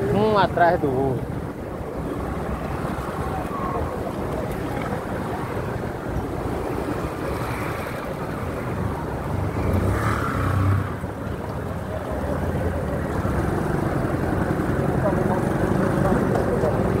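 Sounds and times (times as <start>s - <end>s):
car traffic: 0.0s - 17.0s
wind rumbling on microphone: 0.0s - 17.0s.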